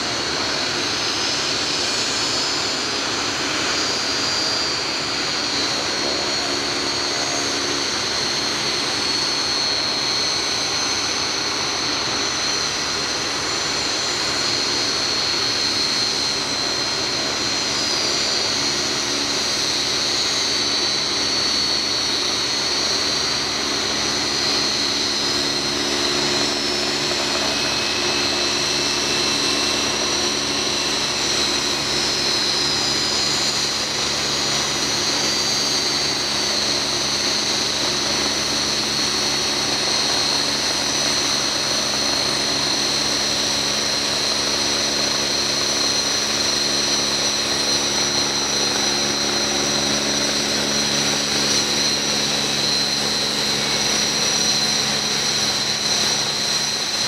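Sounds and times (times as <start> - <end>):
jet engines whining while taxiing: 0.0 - 57.0.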